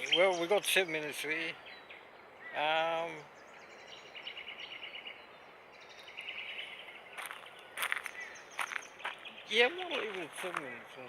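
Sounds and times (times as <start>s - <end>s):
bird chirps: 0.0s - 11.0s
outdoor ambience: 0.0s - 11.0s.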